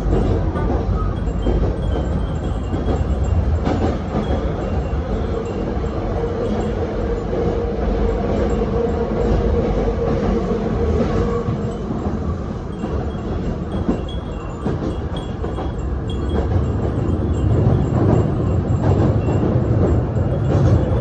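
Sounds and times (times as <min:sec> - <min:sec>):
train hum: 0:00.0 - 0:21.0
train wheels rumbling on track: 0:00.0 - 0:21.0
wind chimes ringing faintly: 0:00.1 - 0:09.4, 0:11.3 - 0:21.0.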